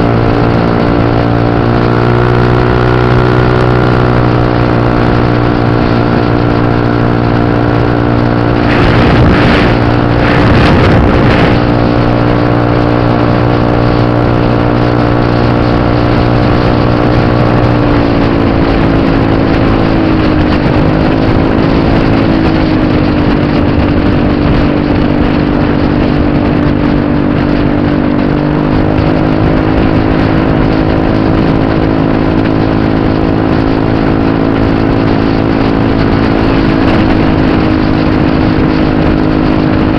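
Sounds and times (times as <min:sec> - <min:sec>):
motor scooter engine running: 0:00.0 - 0:39.9
rushing noise: 0:00.0 - 0:39.9.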